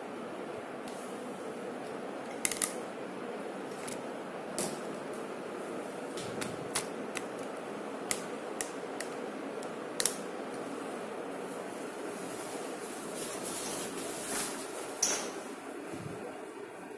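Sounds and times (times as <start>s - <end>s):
steady room noise hiss: 0.0s - 16.9s.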